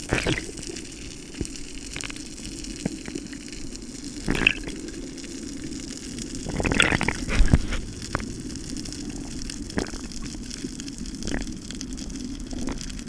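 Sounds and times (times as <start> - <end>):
water rushing and bubbling: 0.0 - 13.0.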